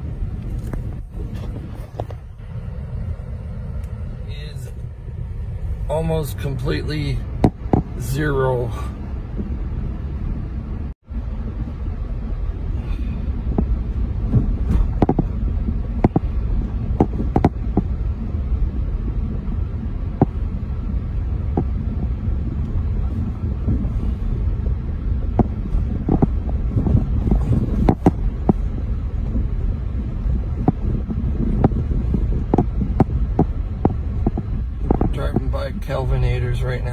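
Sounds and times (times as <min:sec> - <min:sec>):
engine and tyres rumbling: 0:00.0 - 0:36.9.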